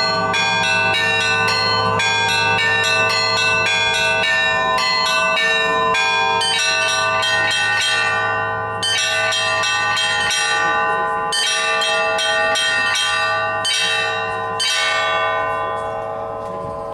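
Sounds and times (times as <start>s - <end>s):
large church bells ringing: 0.0s - 16.9s
small church bells: 0.0s - 16.9s.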